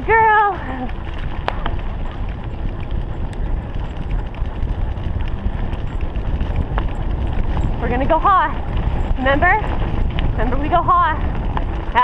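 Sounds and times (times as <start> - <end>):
rumble and crunch on dirt trail: 0.0 - 12.0
wind noise on microphone: 0.0 - 12.0.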